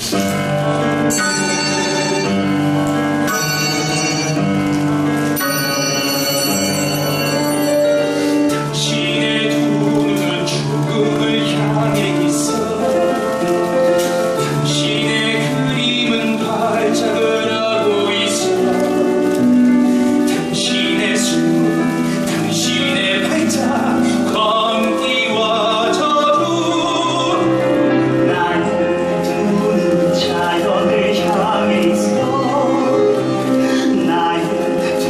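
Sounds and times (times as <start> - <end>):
instrumental accompaniment: 0.0 - 35.0
person singing long held notes: 5.4 - 35.0.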